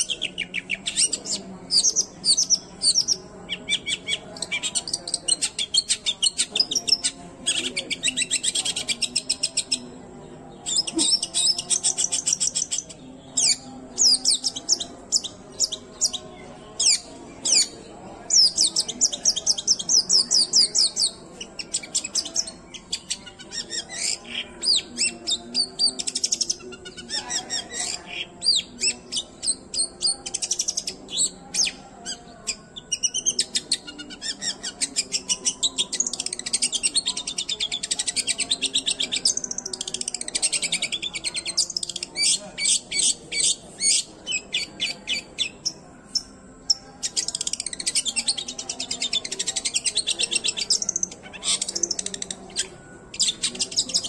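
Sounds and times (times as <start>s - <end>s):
bird singing sharp chirps and trills: 0.0s - 54.0s.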